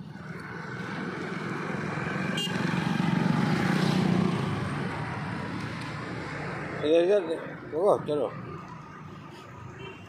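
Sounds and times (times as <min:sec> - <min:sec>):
vehicle passing: 0:00.0 - 0:09.3.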